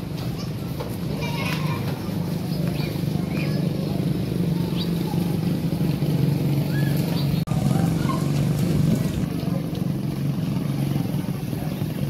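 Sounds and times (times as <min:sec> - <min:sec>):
low motor drone: 0:02.3 - 0:12.0.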